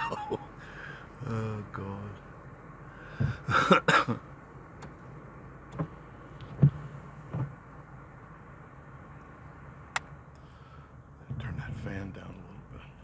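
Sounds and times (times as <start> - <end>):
car fan: 0.0 - 12.8
moving car interior noise: 0.0 - 13.0.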